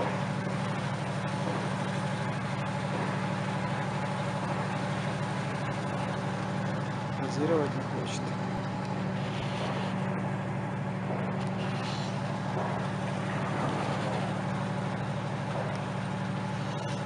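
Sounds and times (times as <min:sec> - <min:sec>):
engine droning steadily: 0:00.0 - 0:17.0.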